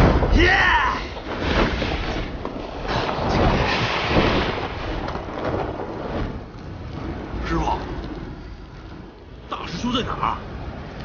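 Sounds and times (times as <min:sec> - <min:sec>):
deep rumble: 0:00.0 - 0:11.0
rushing wind with whooshes: 0:00.0 - 0:11.0.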